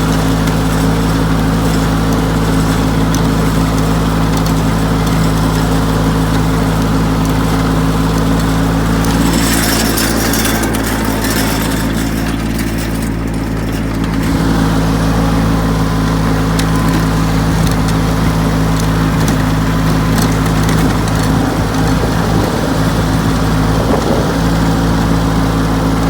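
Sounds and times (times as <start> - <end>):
riding mower engine running: 0.0 - 26.0.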